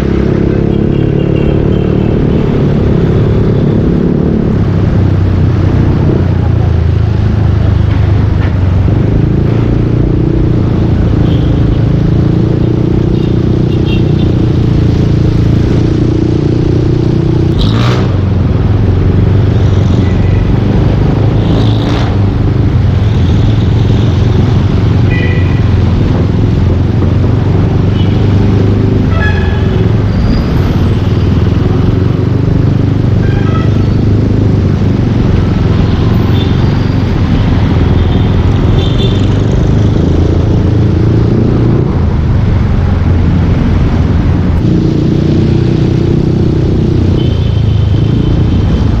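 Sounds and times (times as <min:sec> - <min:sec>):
traffic tones: 0:00.0 - 0:49.0.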